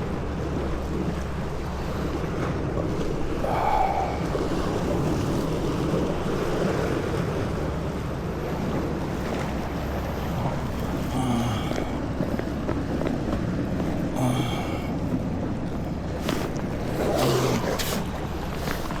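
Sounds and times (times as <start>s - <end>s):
steady low hum: 0.0s - 19.0s
water rushing: 0.0s - 19.0s.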